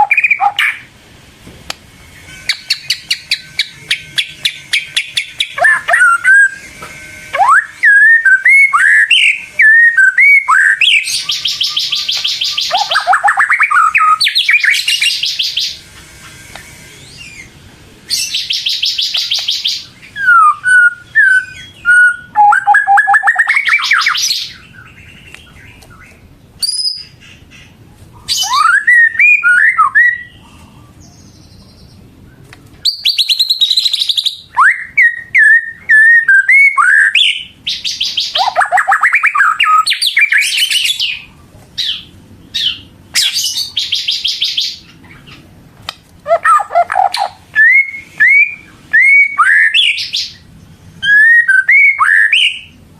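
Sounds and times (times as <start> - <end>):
bird singing trills and whistles: 0.0 - 0.9, 2.2 - 15.9, 16.9 - 45.4, 46.3 - 52.8.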